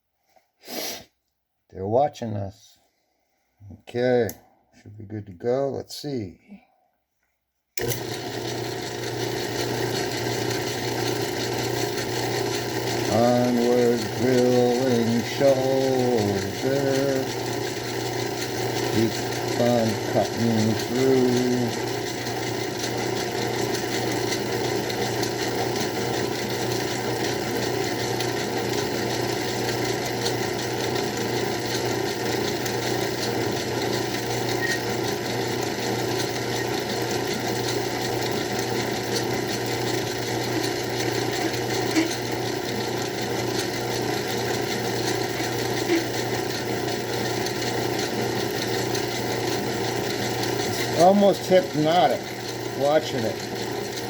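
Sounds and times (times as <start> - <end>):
drill bit cutting: 7.8 - 54.0
lathe running: 7.8 - 54.0.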